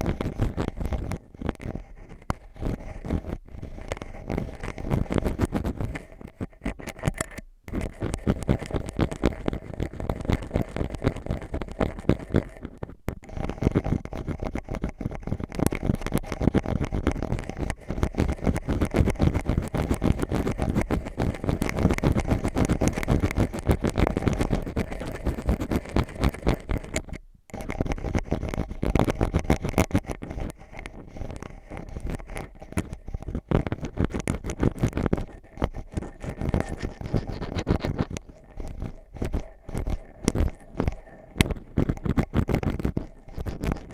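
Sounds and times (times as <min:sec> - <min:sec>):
ear pick scratching and scraping: 0:00.0 - 0:43.9.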